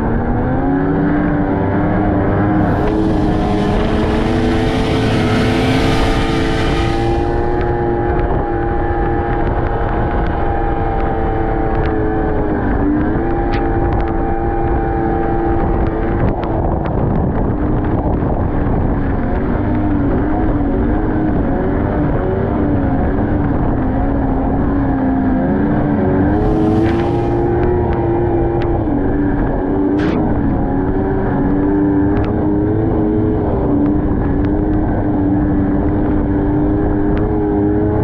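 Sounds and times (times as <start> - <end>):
low wind rumble: 0.0 - 38.0
snowmobile engine running: 0.0 - 38.0.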